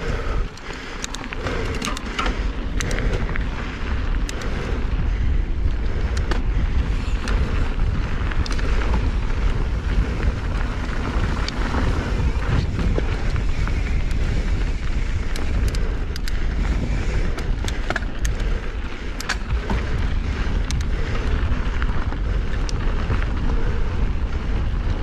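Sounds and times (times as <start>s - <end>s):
bike clicks and rattles: 0.0s - 25.0s
knobby tyres rolling over dirt: 0.0s - 25.0s
wind buffeting microphone: 0.0s - 25.0s.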